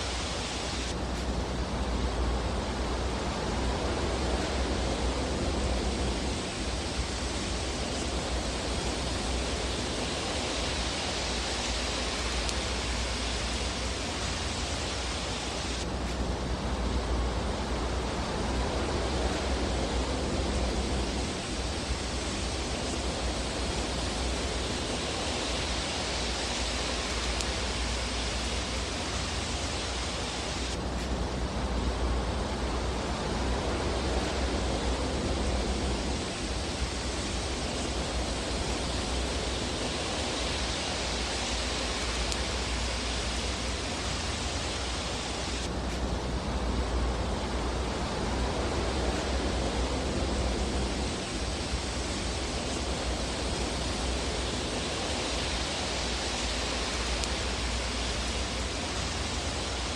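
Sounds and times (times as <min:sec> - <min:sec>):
fireplace fire hissing: 0:00.0 - 0:59.9.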